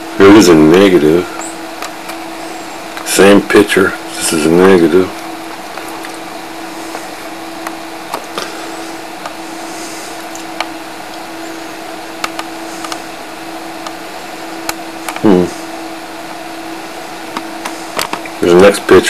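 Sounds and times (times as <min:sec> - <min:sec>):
low hum: 0:00.0 - 0:19.0
steady hiss: 0:00.0 - 0:19.0.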